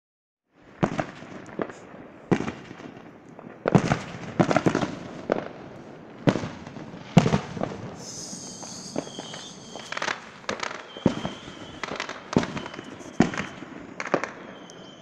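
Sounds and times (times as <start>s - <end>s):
fireworks bangs: 0.7s - 15.0s
fireworks pops: 0.8s - 5.6s, 6.2s - 15.0s.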